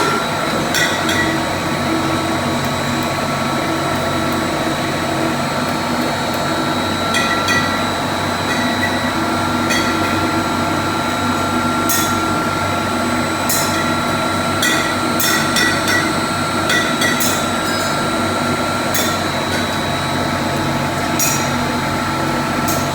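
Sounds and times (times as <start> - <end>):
electric pump motor humming: 0.0 - 22.9.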